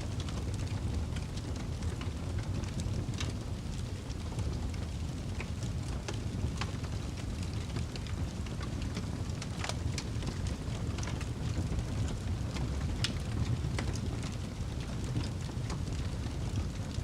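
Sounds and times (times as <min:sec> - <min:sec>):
low rumble of fire: 0:00.0 - 0:17.0
wood fire crackling and popping: 0:00.0 - 0:17.0.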